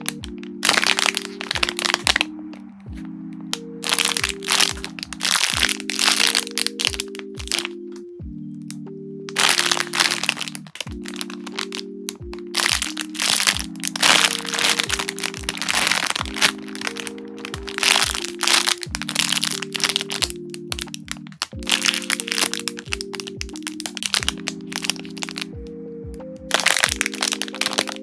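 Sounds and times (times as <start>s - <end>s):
plastic packaging crinkling: 0.0s - 2.6s, 3.8s - 7.7s, 9.3s - 25.5s, 26.5s - 28.0s
lo-fi background music: 0.0s - 28.0s.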